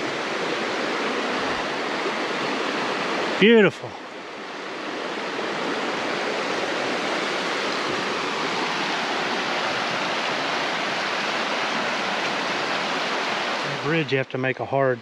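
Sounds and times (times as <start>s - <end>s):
creek water rushing over rocks: 0.0s - 14.7s.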